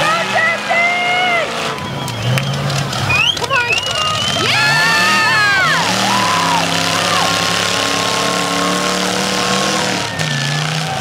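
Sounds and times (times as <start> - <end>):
car engines running rough: 0.0 - 11.0.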